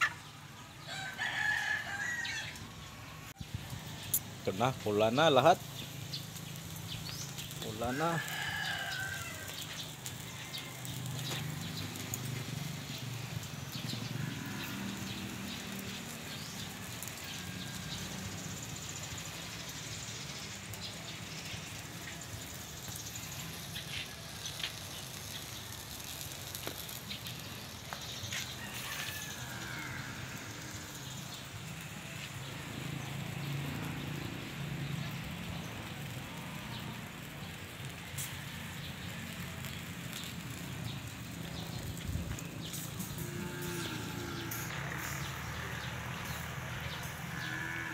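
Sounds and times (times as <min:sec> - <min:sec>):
charcoal fire crackling: 0:00.0 - 0:47.9.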